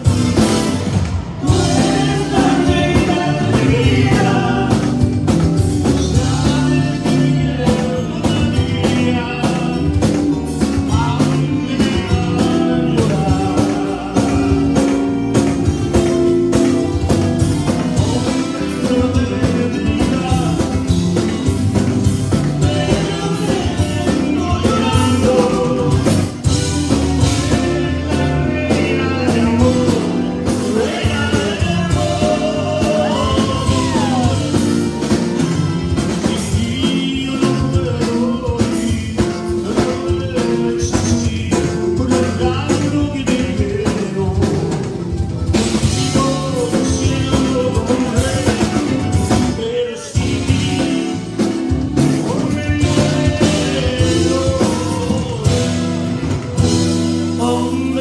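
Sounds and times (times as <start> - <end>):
bass guitar: 0.0 - 58.0
electric guitars: 0.0 - 58.0
steady drum beat: 0.0 - 58.0
person singing through pa: 1.4 - 58.0.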